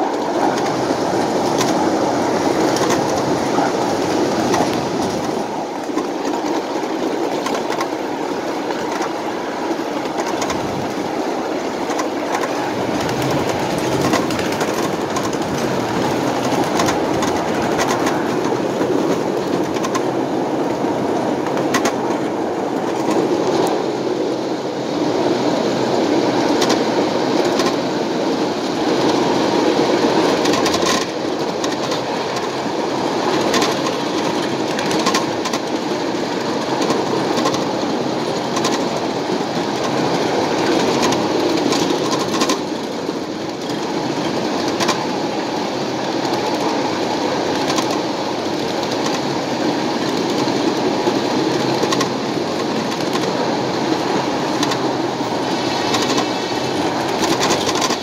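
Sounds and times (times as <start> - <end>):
wheels clicking over rail joints: 0.0 - 24.0, 26.3 - 58.0
hopper cars rolling over track: 0.0 - 58.0.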